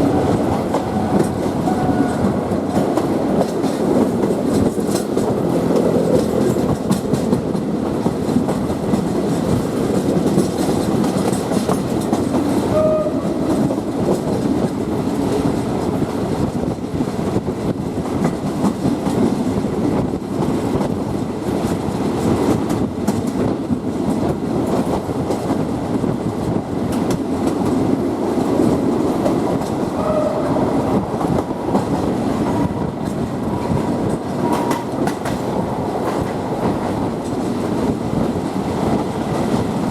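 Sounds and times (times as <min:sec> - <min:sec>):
train rumbling on track: 0:00.0 - 0:39.9
wheels clicking over rail joints: 0:00.0 - 0:39.9.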